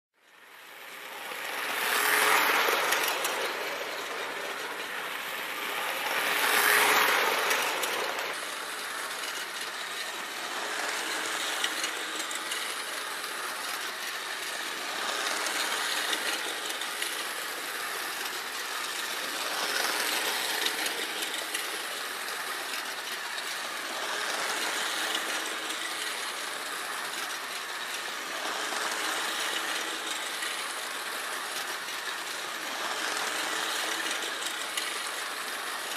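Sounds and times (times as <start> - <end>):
toy train clattering on rails: 0.3 - 35.9.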